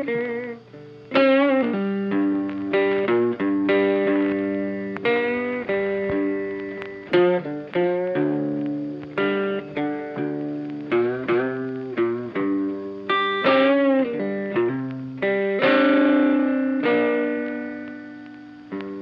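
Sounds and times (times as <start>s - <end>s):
guitar picking a melody: 0.0s - 19.0s.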